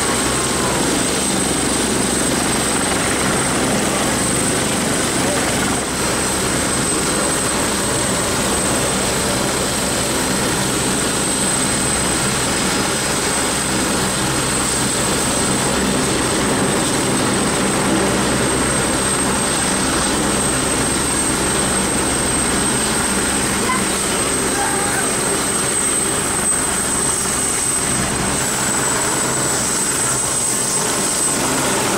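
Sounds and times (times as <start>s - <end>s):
jet turbine roar with whine: 0.0s - 31.9s.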